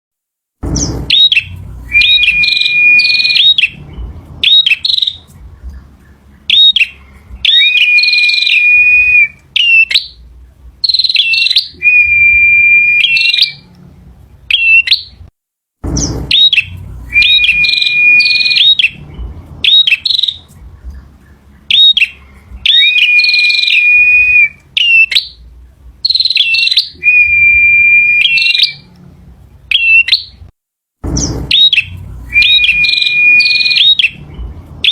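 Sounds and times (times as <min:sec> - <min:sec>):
bird singing chirps and whistles: 0:00.6 - 0:10.2, 0:10.8 - 0:13.6, 0:14.5 - 0:15.2, 0:15.9 - 0:20.6, 0:21.2 - 0:25.4, 0:26.0 - 0:28.9, 0:29.7 - 0:30.4, 0:31.2 - 0:34.9.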